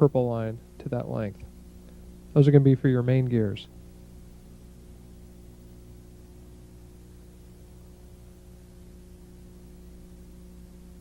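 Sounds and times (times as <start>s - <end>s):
electrical hum: 0.0s - 11.0s
tape hiss: 0.0s - 11.0s.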